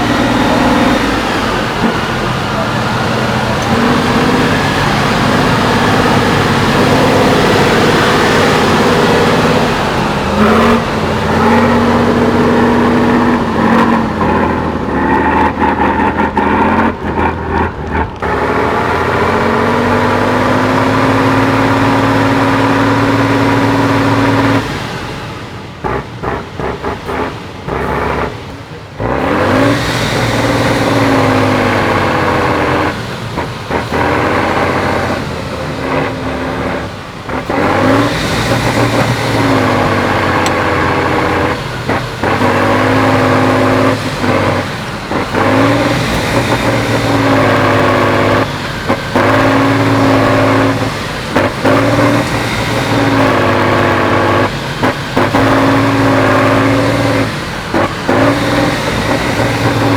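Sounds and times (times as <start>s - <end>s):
truck engine revving under load: 0.0s - 59.9s.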